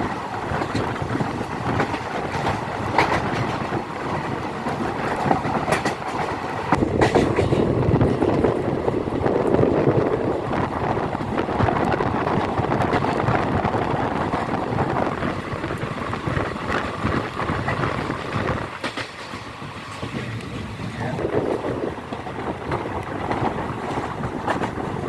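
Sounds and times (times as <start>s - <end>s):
rattling clickety-clack: 0.0s - 25.0s
train wheels rumbling on rails: 0.0s - 25.0s.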